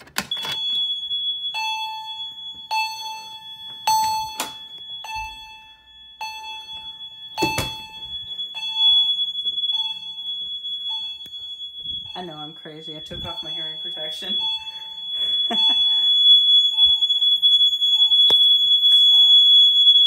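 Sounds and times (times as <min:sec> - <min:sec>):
steady high-pitched alarm tone: 0:00.3 - 0:20.0.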